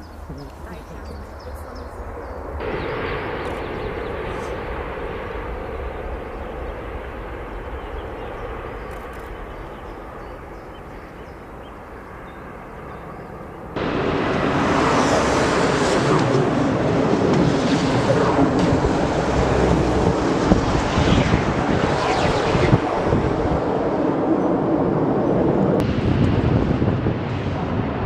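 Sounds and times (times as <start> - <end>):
jet engine noise: 0.0 - 28.0.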